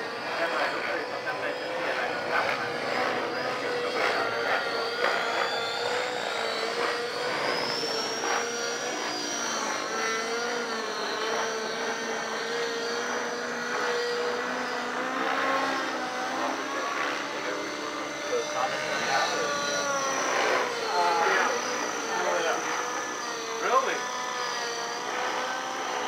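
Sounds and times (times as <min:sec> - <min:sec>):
high motor whine: 0:00.0 - 0:26.0
model helicopter rotor drone: 0:00.0 - 0:26.0.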